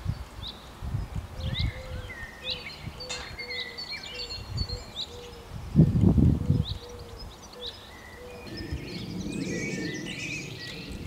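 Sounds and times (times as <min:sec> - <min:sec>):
small birds chirping and singing: 0:00.0 - 0:11.0.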